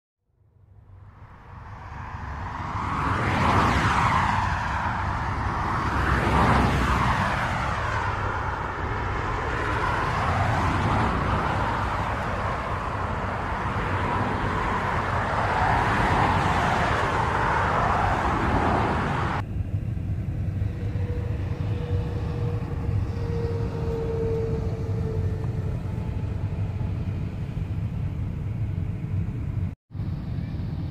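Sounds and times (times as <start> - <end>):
highway traffic: 0.2 - 30.9
vehicles passing: 0.3 - 30.9.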